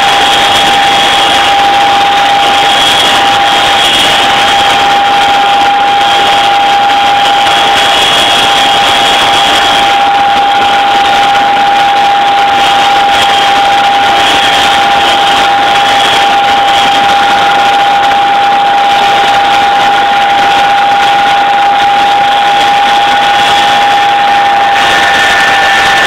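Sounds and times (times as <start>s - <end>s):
helicopter engine and rotor noise: 0.0s - 26.0s
high transmission whine: 0.0s - 26.0s
higher whine: 0.0s - 26.0s.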